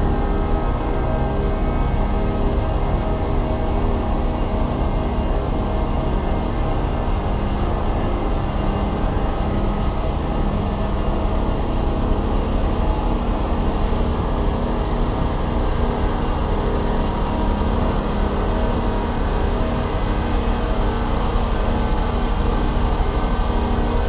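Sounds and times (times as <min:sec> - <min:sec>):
dark ambient drone: 0:00.0 - 0:24.0.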